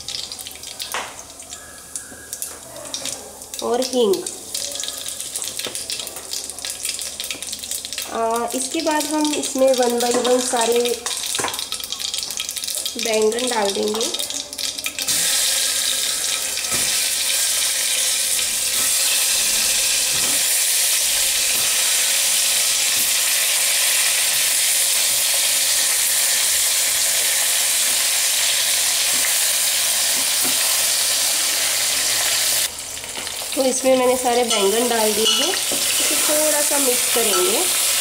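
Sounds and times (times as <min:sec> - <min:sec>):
oil sizzling in a pot: 0:00.0 - 0:38.0.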